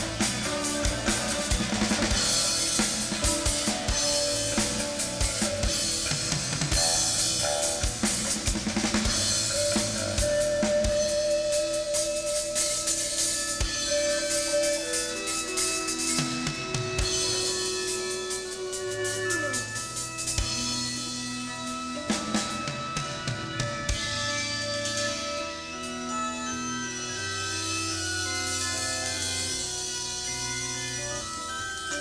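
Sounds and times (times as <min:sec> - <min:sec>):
drum kit steady beat: 0:00.0 - 0:30.8
electric guitars: 0:00.0 - 0:32.0
keyboard: 0:00.0 - 0:32.0.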